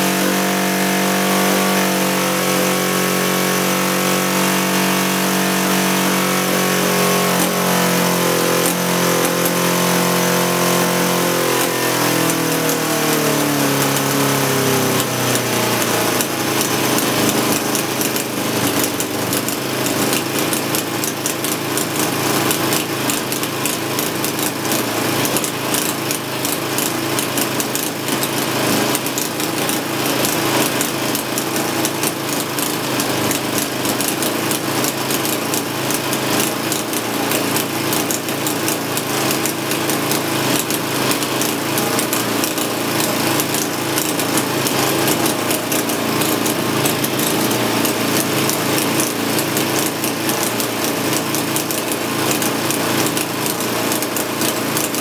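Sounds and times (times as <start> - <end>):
band saw cutting log: 0.0 - 55.0
motorcycle engine running: 0.0 - 55.0.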